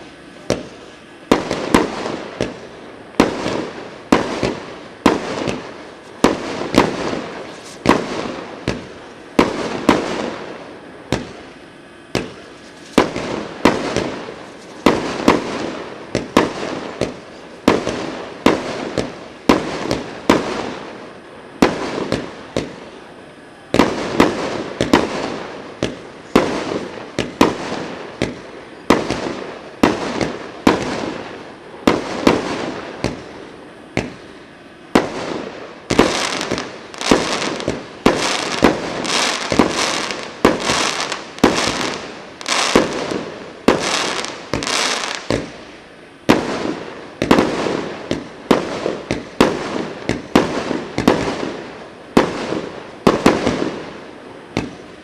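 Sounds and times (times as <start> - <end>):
firework bangs: 0.0 - 55.0.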